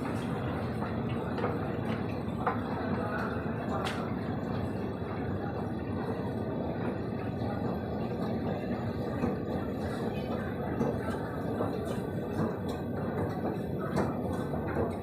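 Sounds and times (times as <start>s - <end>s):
metro station din: 0.0s - 15.0s.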